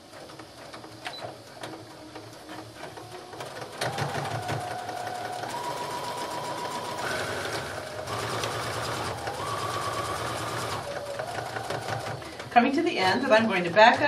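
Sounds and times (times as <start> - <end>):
sewing machine motor whine: 0.0 - 14.0.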